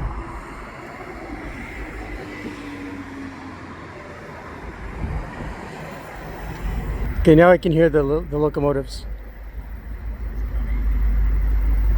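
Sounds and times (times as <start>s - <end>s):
distant vehicles rumbling: 0.0s - 11.9s.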